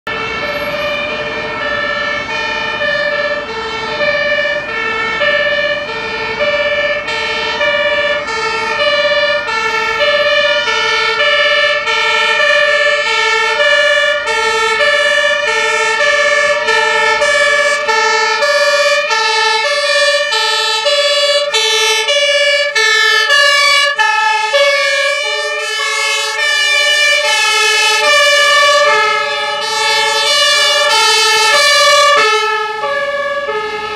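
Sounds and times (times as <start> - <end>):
two-tone fire engine sirens: 0.0 - 33.9.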